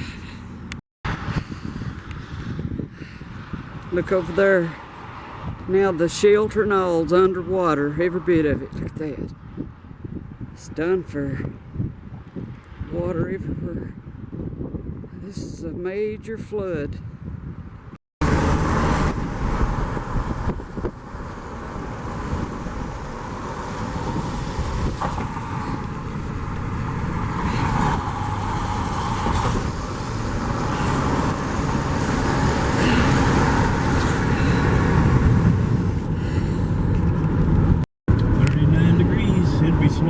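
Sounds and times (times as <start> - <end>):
car engine and road noise: 0.0 - 15.6, 16.3 - 40.0.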